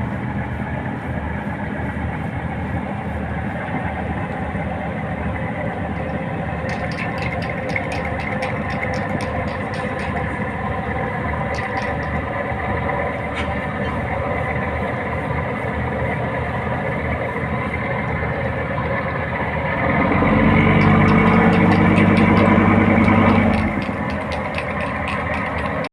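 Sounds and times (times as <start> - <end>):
boat diesel engines running: 0.0 - 25.9
deep engine close by: 0.0 - 25.9.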